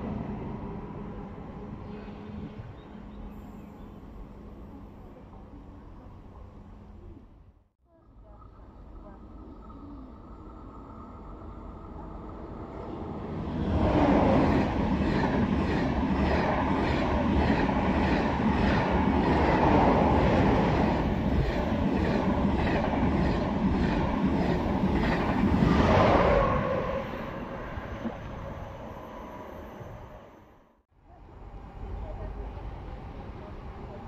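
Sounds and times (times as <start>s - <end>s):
high-speed train passing: 0.0s - 7.1s, 9.0s - 34.0s.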